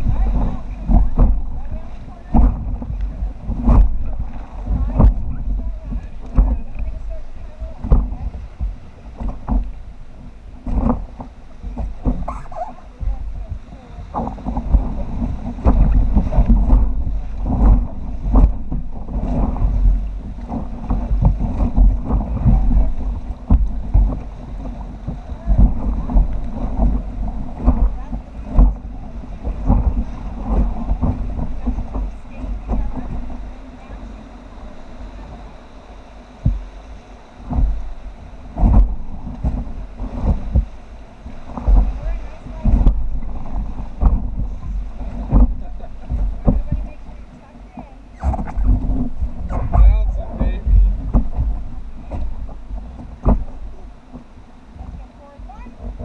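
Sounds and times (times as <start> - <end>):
paddles splashing: 0.0 - 56.0
river water rushing and splashing: 0.0 - 56.0
wind buffeting microphone: 0.0 - 56.0.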